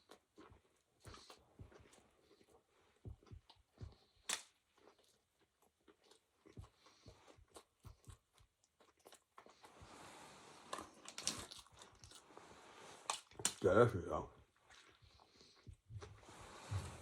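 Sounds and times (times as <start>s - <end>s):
crunchy chewing: 0.0s - 13.7s.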